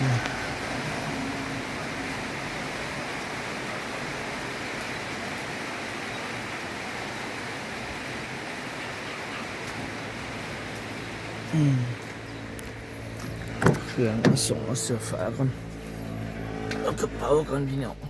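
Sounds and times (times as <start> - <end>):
heavy rain: 0.0 - 14.5.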